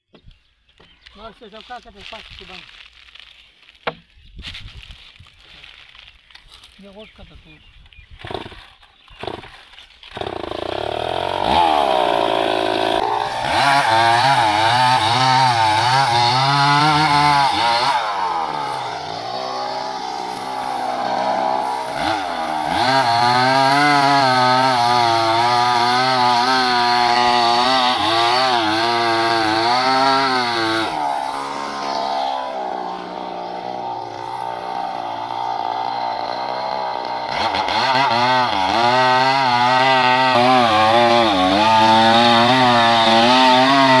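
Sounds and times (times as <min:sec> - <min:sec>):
chainsaw cutting wood: 0:08.2 - 0:44.0.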